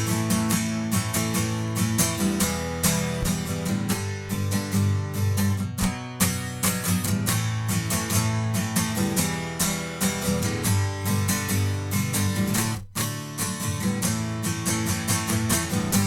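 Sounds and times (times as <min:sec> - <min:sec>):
acoustic guitars strumming chords: 0:00.0 - 0:16.0.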